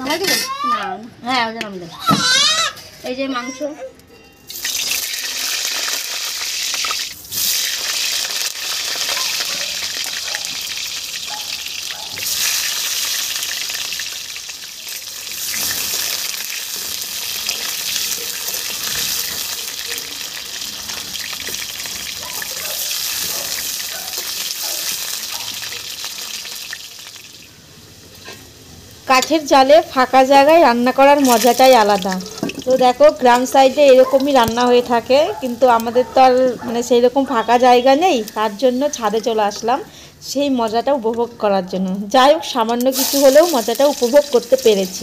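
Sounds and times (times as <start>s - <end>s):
potatoes sizzling in hot oil: 4.5s - 35.9s, 37.0s - 39.8s, 42.7s - 45.0s.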